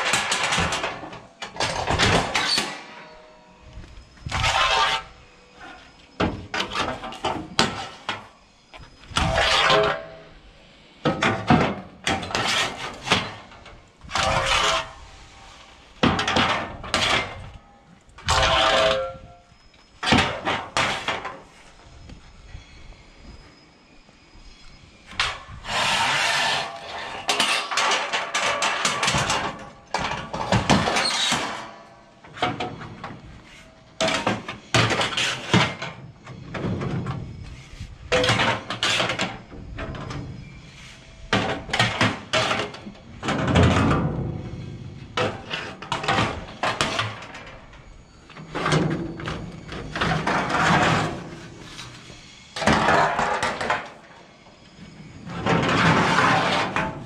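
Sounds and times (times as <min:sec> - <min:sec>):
metal clanks and scraping: 0:00.0 - 0:22.5, 0:24.6 - 0:57.0.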